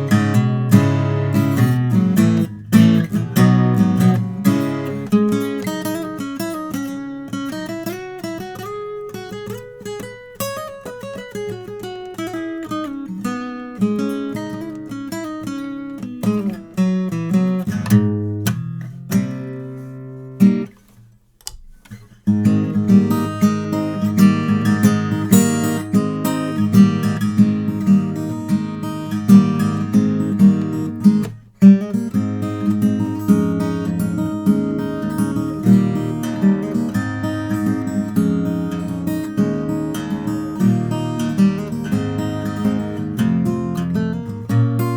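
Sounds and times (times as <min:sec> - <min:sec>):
acoustic guitar playing: 0:00.0 - 0:44.9.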